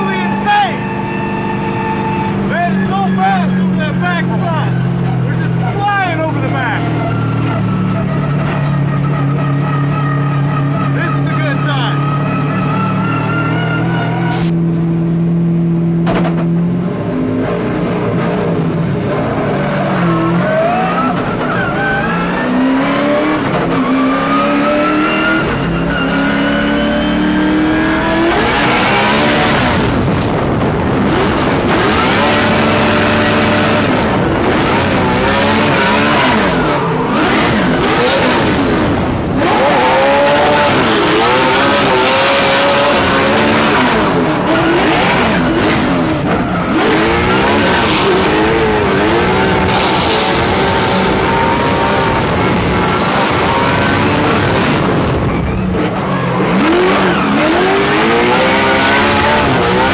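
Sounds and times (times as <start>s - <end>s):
tires squealing and skidding: 0.0s - 14.5s, 19.5s - 29.9s, 31.7s - 59.9s
car engine accelerating: 0.0s - 59.9s.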